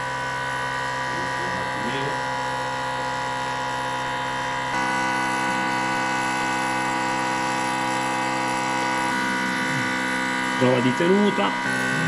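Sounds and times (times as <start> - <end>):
air compressor humming: 0.0 - 12.0.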